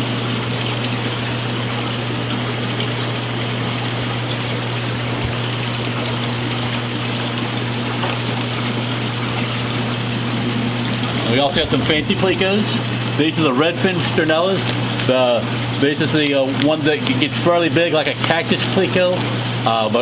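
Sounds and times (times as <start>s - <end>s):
air bubbling: 0.0s - 19.6s
low pump hum: 0.0s - 20.0s
water trickling: 0.0s - 20.0s.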